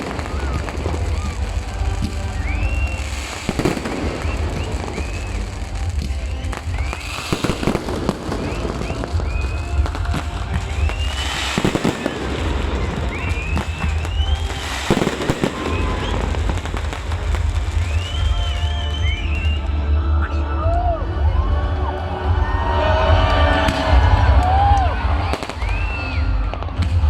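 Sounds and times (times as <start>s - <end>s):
fireworks booming: 0.0s - 19.6s, 23.2s - 27.0s
crackling firework bursts: 0.0s - 19.8s, 23.1s - 27.0s
whistling fireworks: 0.0s - 20.9s, 22.5s - 27.0s.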